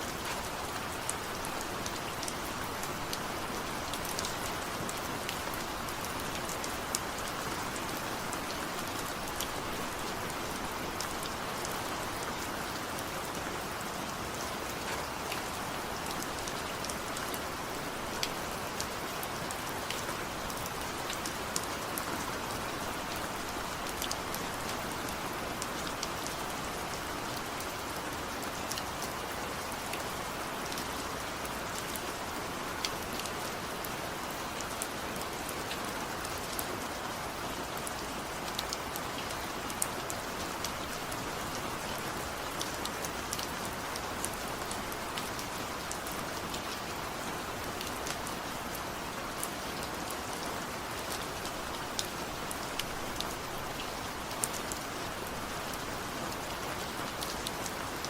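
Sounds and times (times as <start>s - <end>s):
gentle rain hissing: 0.0s - 58.0s.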